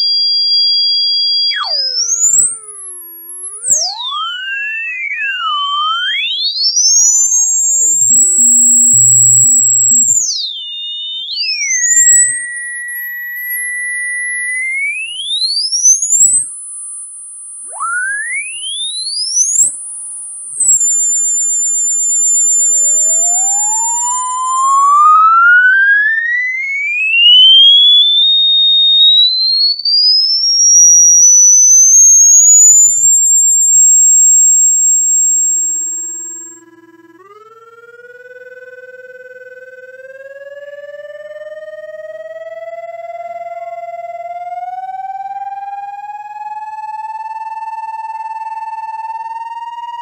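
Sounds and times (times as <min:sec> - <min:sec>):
electronic whistle tones sweeping up: 0:00.0 - 0:50.0.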